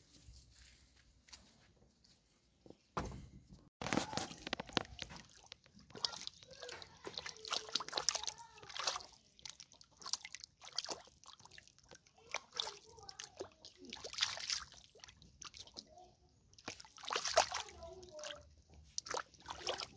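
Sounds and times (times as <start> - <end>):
bare feet splashing in muddy puddle: 3.8 - 19.9.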